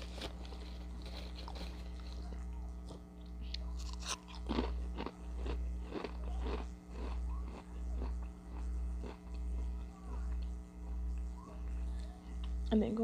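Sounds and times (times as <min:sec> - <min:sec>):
chewing crunchy chips: 0:00.0 - 0:11.3
steady low hum: 0:00.0 - 0:13.0.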